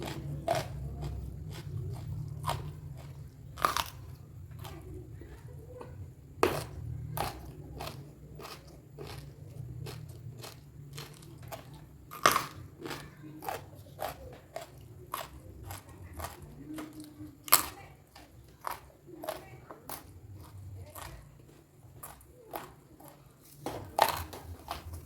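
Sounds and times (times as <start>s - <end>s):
crunchy chewing: 0.0s - 25.0s
low steady hum: 0.0s - 25.0s.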